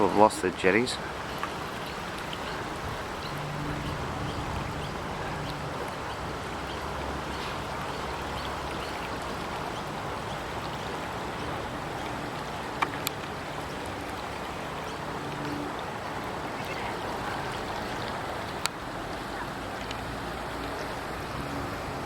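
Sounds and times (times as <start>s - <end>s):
outdoor river noise: 0.0s - 22.0s.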